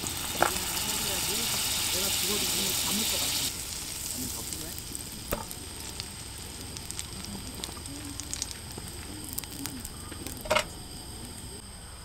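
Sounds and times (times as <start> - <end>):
butter sizzling in a frying pan: 0.0 - 11.5.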